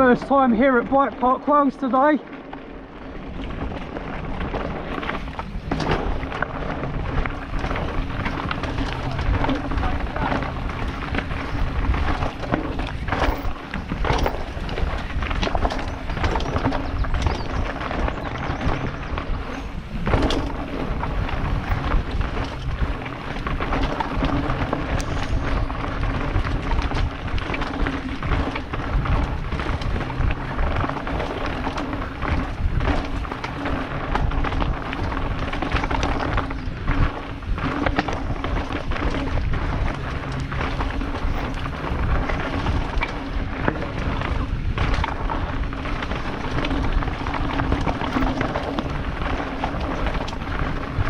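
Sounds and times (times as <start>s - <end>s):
bike knocking and rattling: 0.0s - 51.0s
tyres crunching over loose stones: 0.0s - 51.0s
wind rush on microphone: 0.0s - 51.0s.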